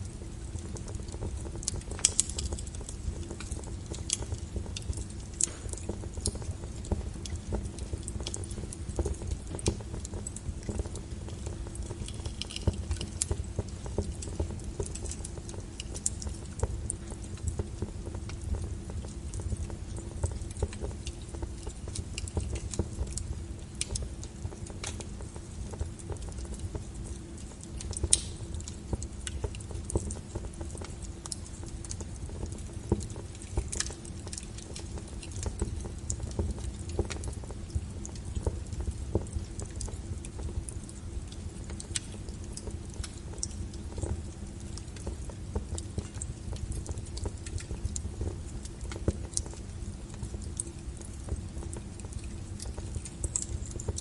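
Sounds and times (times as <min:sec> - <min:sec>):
log fire rumbling: 0:00.0 - 0:54.0
wood crackling and popping: 0:00.0 - 0:54.0.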